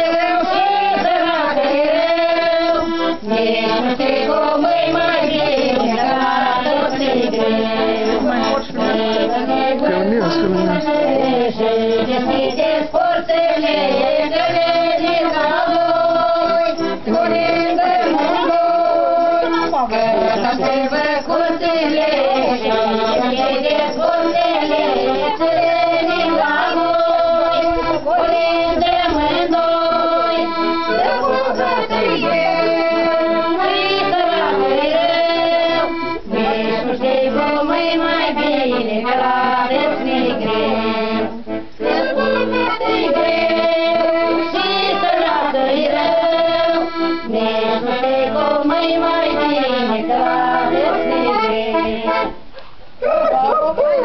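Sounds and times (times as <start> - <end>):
piano accordion folk tune: 0.0 - 52.8
voices singing along: 0.0 - 54.0.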